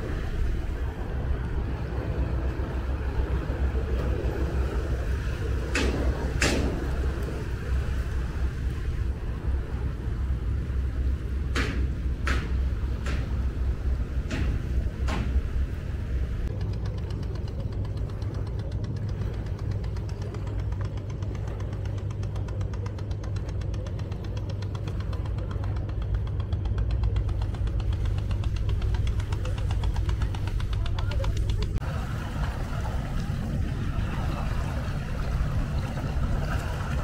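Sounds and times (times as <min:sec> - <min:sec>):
boat engine knocking: 0:00.0 - 0:37.0.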